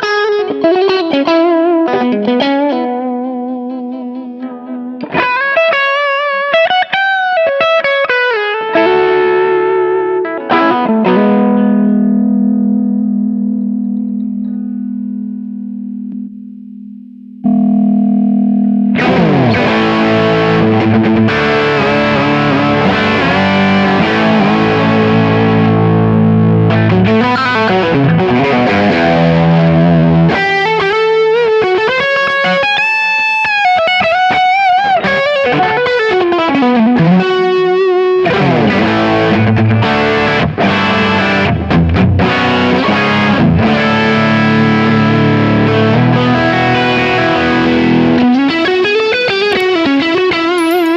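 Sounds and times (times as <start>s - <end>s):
distorted electric guitar chords: 0.0s - 50.9s
electric guitar lead with string bends: 0.0s - 50.9s.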